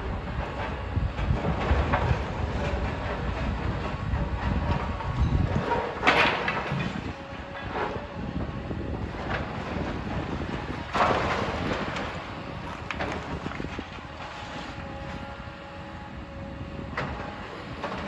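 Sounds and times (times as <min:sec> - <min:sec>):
demolition machinery rumbling: 0:00.0 - 0:18.0.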